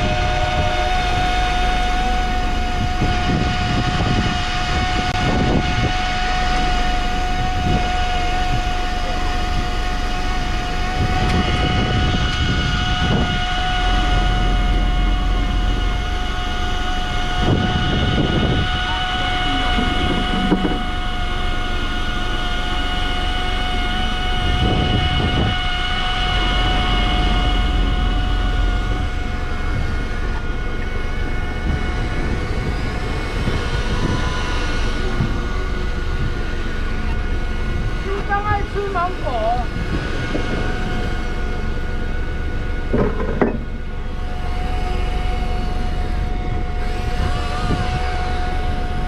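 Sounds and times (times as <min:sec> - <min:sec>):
boat engine rumbling: 0:00.0 - 0:49.0
high engine whine: 0:00.0 - 0:49.0.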